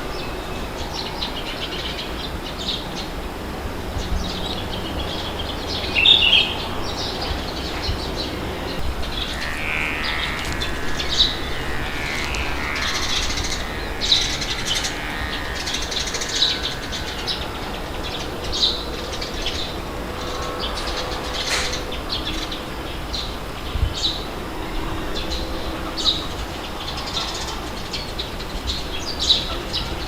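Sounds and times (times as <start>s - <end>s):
birds chirping: 0.0s - 30.0s
low wind: 0.0s - 30.0s.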